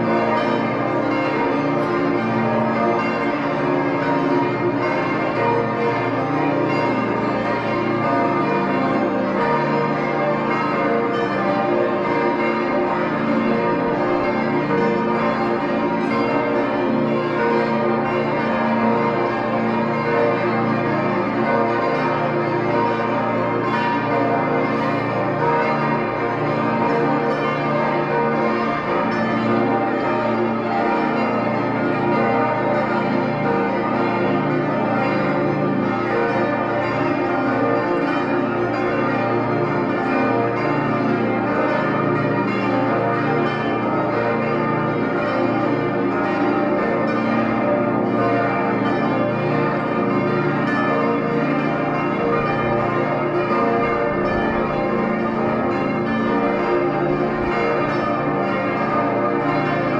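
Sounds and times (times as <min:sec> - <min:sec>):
large church bells ringing: 0:00.0 - 0:59.9.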